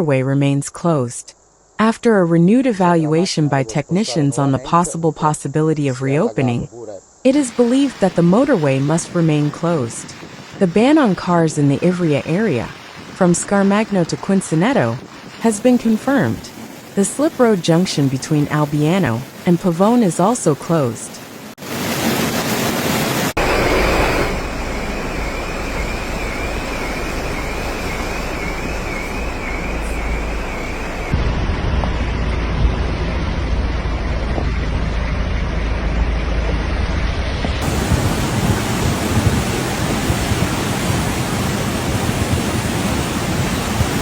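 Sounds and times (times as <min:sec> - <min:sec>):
floodwater roaring: 0:07.3 - 0:44.0.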